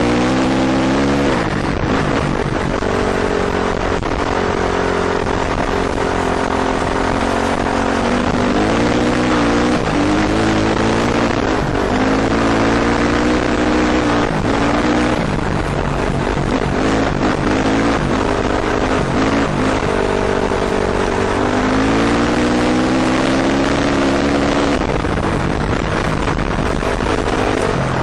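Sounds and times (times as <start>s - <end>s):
dirt bike engine: 0.0s - 28.0s
gravel noise: 0.0s - 28.0s
wind rushing: 0.0s - 28.0s.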